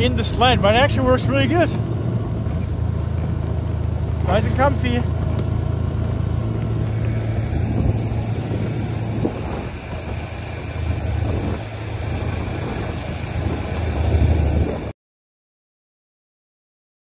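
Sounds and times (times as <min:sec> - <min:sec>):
sled scraping over snow: 0:00.0 - 0:14.9
snow vehicle engine drone: 0:00.0 - 0:15.0.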